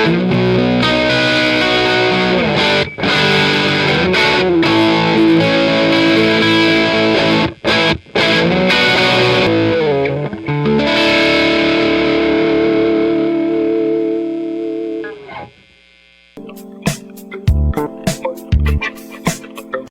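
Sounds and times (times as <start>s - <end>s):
distorted electric guitar chords: 0.0s - 19.9s.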